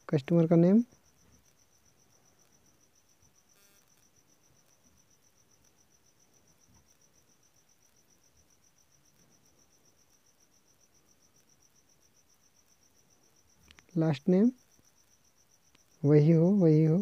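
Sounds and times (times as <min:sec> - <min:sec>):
faint buzz: 0:00.0 - 0:17.0
insect chirping trill: 0:00.0 - 0:17.0.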